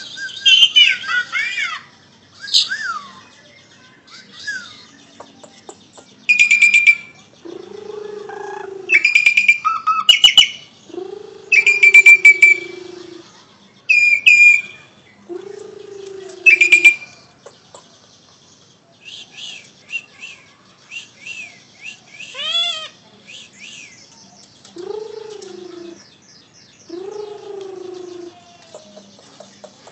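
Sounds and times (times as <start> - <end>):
starling singing: 0.0 - 29.9.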